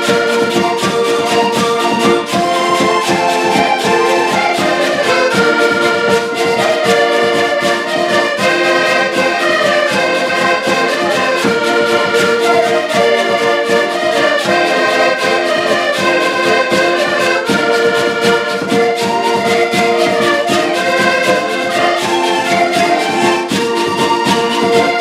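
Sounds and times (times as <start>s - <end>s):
accordions playing folk music: 0.0s - 25.0s.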